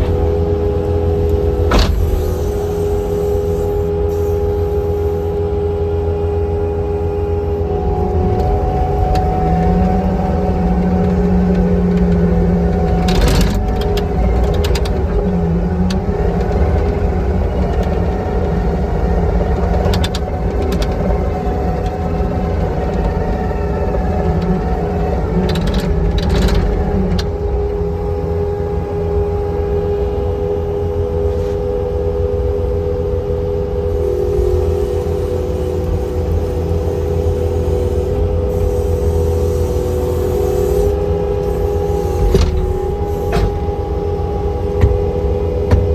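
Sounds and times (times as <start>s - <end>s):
diesel engine running: 0.0s - 45.9s
steady whine: 0.0s - 45.9s.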